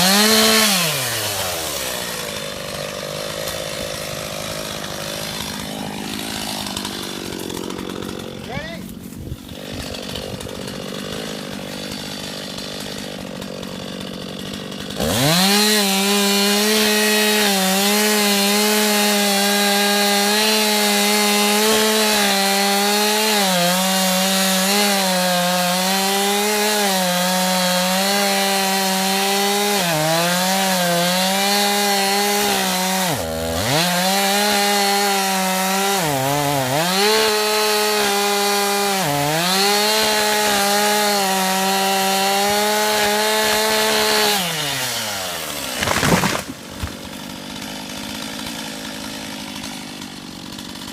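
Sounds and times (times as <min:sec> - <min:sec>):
chainsaw engine revving: 0:00.0 - 0:50.9.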